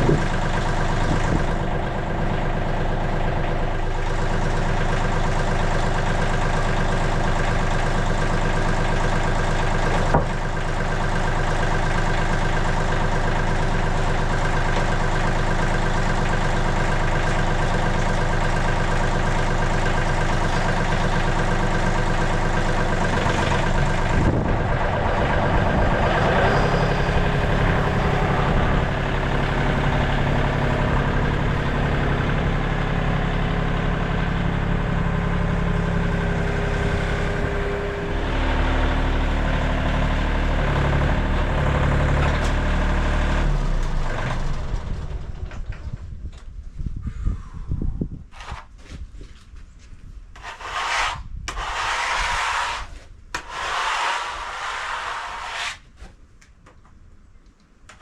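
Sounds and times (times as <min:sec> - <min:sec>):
sawmill engine running: 0:00.0 - 0:45.9, 0:50.4 - 0:55.8.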